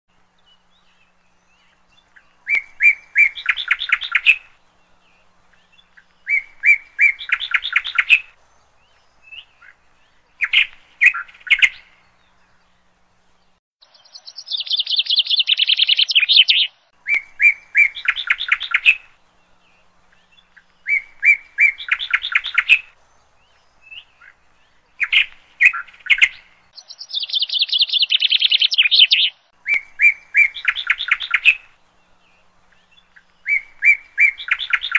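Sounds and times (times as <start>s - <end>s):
bird song with chirps and trills: 0.1s - 34.9s.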